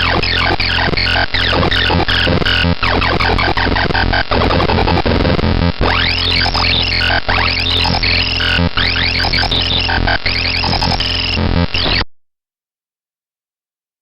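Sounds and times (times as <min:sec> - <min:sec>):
low electronic drone: 0:00.0 - 0:11.9
synthesized stepped tones: 0:00.0 - 0:12.1.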